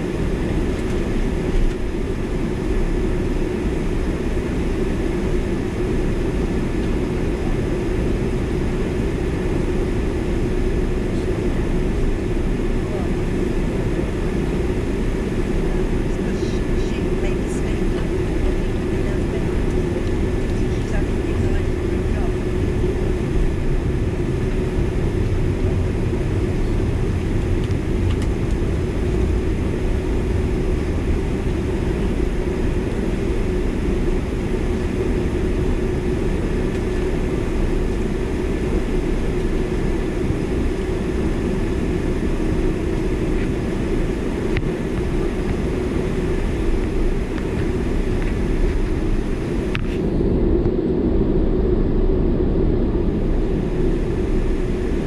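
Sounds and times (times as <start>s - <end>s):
constant hum: 0.0s - 55.0s
jet engines idling rumble: 0.0s - 55.0s.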